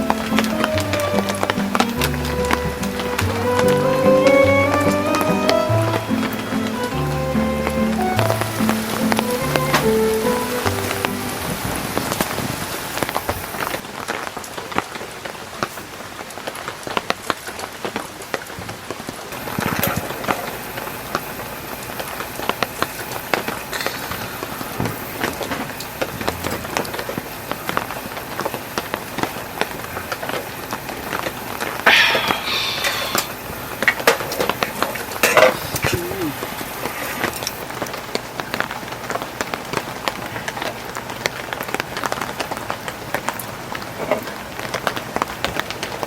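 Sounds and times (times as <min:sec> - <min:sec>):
heavy rain on a tent: 0:00.0 - 0:46.0.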